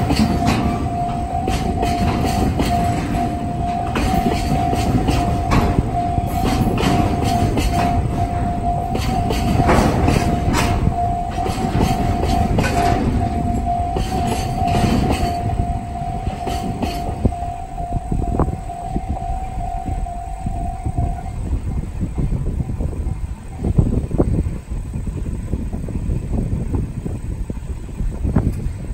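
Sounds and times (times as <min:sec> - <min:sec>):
level-crossing alarm tone: 0:00.0 - 0:23.9
freight train rumbling past: 0:00.0 - 0:28.9
train wheels clacking on rail joints: 0:00.0 - 0:28.9.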